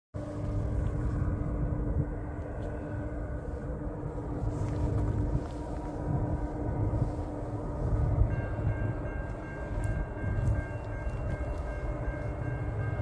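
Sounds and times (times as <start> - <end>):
diesel locomotives droning: 0.2 - 13.0
wind buffeting microphone: 0.2 - 13.0.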